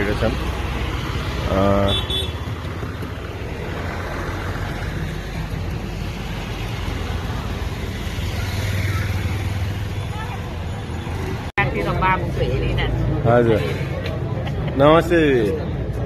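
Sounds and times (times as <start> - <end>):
bus engines rumbling: 0.0 - 16.0.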